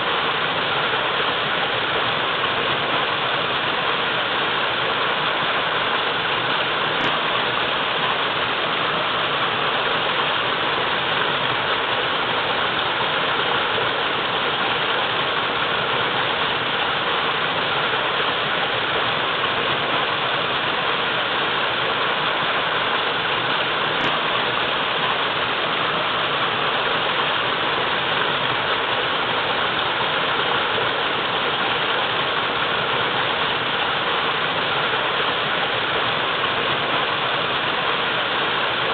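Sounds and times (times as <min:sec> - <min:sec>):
waterfall pouring into a pool: 0:00.0 - 0:38.9.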